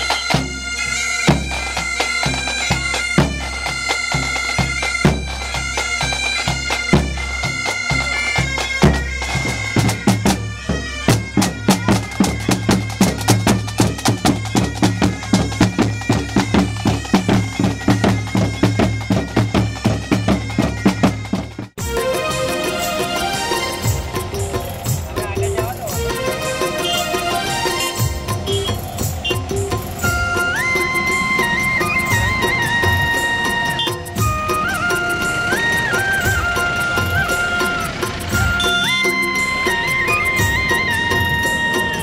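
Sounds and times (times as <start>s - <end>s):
bass drum beat: 0.0s - 41.5s
bagpipes playing: 0.0s - 42.0s
rapid drum strokes: 0.0s - 42.0s.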